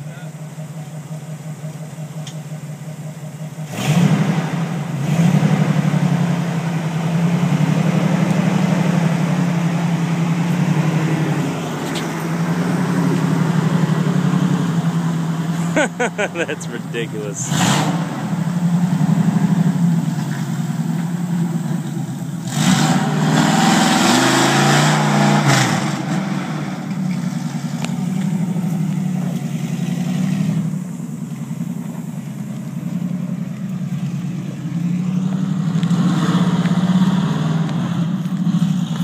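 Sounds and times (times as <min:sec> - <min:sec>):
truck engine revving: 0:03.6 - 0:39.0.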